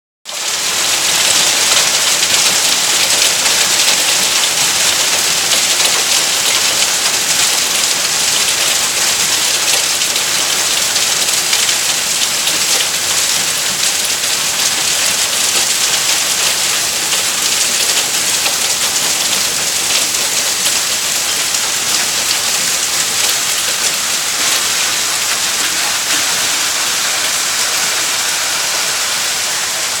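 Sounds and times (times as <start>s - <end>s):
hailstones clattering: 0.4s - 30.0s.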